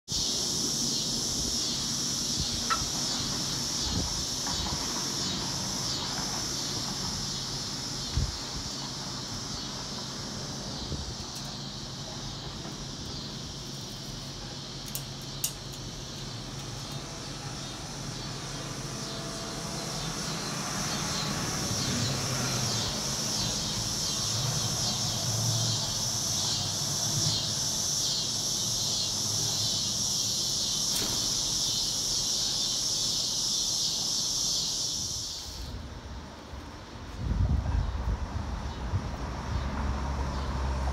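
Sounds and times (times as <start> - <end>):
insects chirring: 0.1 - 37.2, 38.6 - 38.9.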